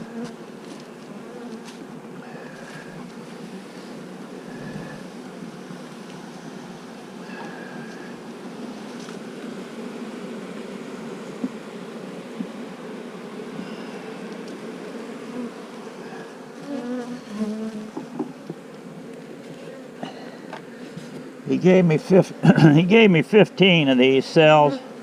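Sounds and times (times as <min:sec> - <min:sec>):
bee buzzing close by: 0:00.0 - 0:25.0
honeybees humming: 0:00.0 - 0:25.0.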